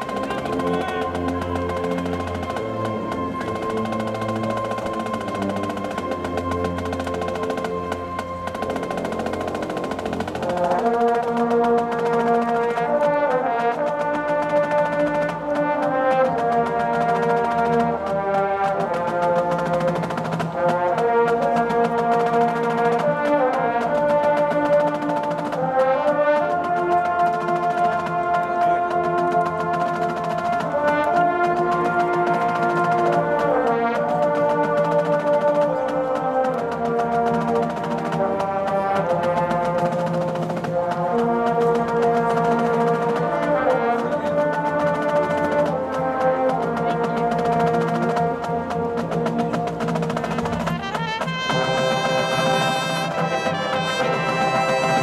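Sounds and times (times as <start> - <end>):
brass section playing chorale: 0.0 - 55.0.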